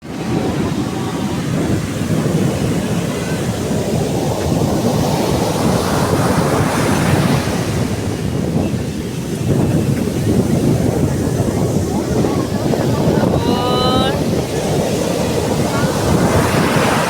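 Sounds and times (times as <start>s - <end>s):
sea waves breaking on beach: 0.0s - 17.0s
wind buffeting microphone: 0.0s - 17.0s.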